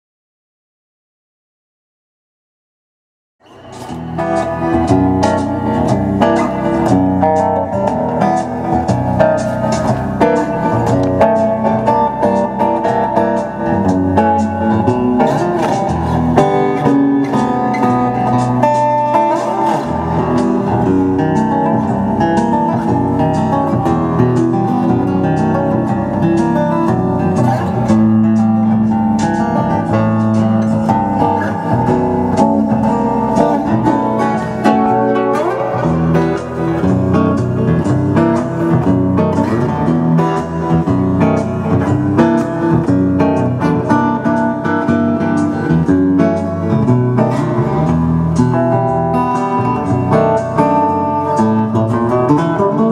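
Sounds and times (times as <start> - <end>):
acoustic guitar plucked notes: 3.4 - 52.9.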